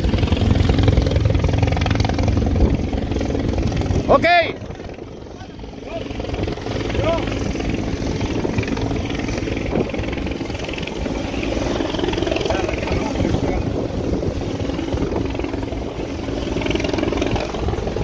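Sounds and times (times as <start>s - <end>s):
boat engine running: 0.0s - 18.0s
rushing wind: 0.0s - 18.0s
sea noise: 0.0s - 18.0s.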